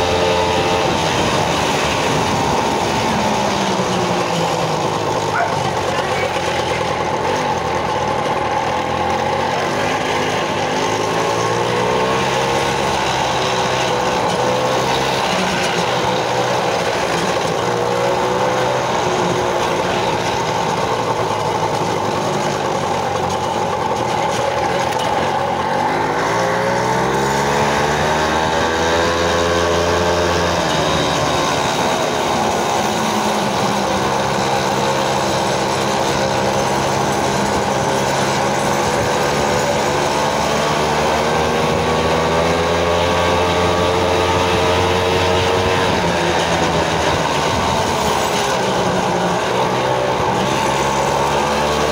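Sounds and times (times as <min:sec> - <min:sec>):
moped engine revving: 0:00.0 - 0:51.9.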